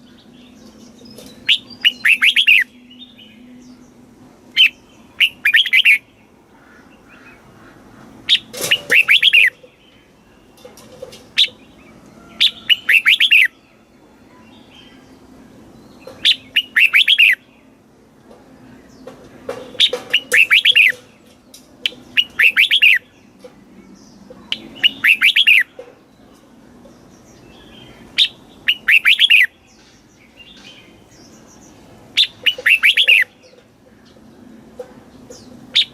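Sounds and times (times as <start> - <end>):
bird warbling song: 0.0 - 17.8, 18.6 - 35.9.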